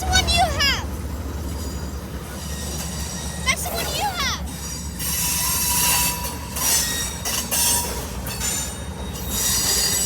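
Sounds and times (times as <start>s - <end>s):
train running past: 0.0s - 10.0s.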